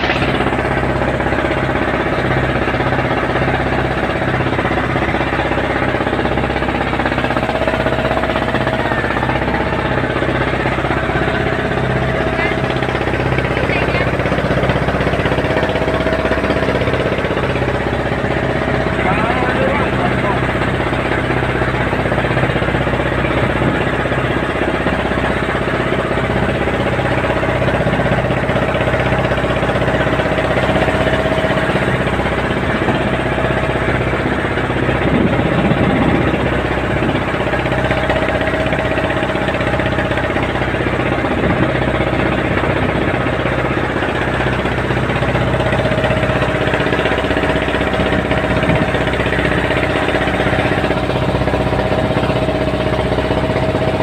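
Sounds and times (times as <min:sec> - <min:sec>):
boat engine running steadily: 0:00.0 - 0:54.0.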